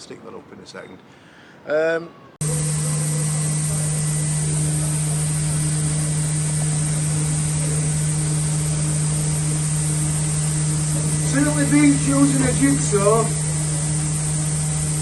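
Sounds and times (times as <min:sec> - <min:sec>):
laser cutter humming and hissing: 0:02.4 - 0:15.0.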